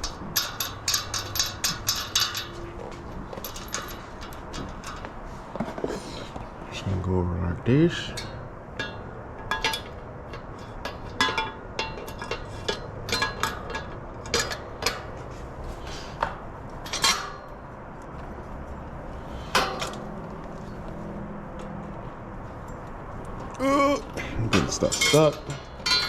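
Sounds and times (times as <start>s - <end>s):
metal bicycle parts clinking: 0.0s - 6.4s, 7.8s - 21.0s, 22.4s - 26.0s.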